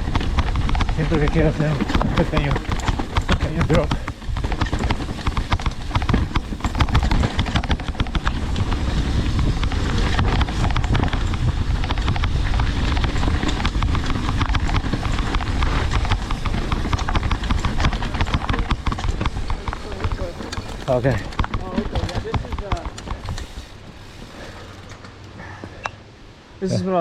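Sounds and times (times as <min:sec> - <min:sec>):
bike rattling over rocks: 0:00.0 - 0:25.8
steady low rumble: 0:00.0 - 0:26.9.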